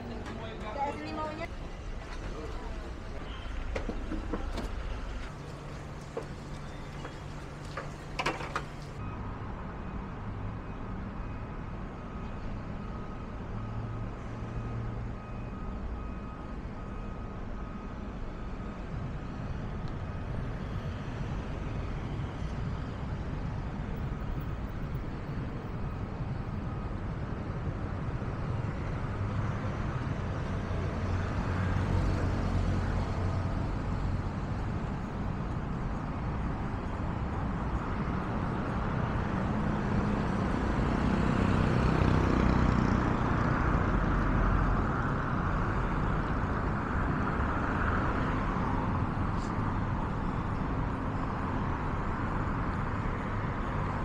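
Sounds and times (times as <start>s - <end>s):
vehicles passing: 0.0s - 11.1s, 20.3s - 54.0s
city traffic hum: 0.0s - 54.0s.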